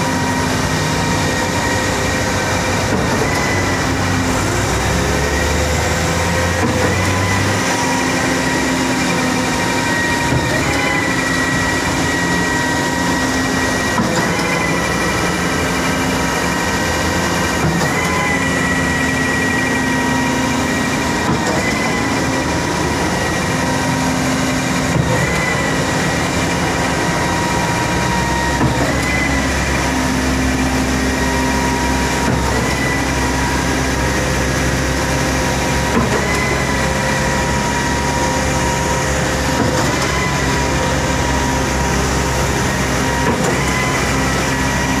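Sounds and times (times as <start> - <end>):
heavy machinery engine drone: 0.0 - 45.0
machine whining hum: 0.0 - 45.0.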